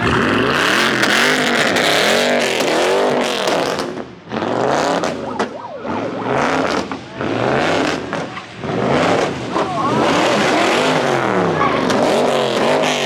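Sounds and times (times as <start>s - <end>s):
car engine revving: 0.5s - 13.0s.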